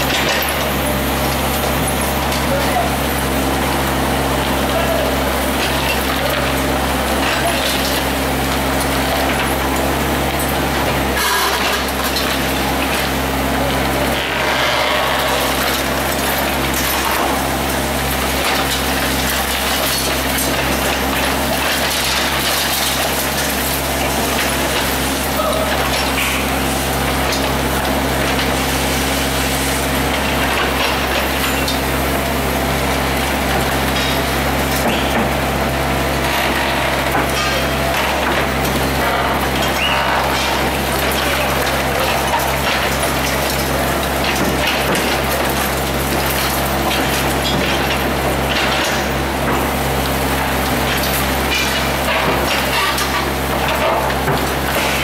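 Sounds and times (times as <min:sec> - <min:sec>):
concrete crunching and cracking: 0:00.0 - 0:55.0
excavator engine running: 0:00.0 - 0:55.0.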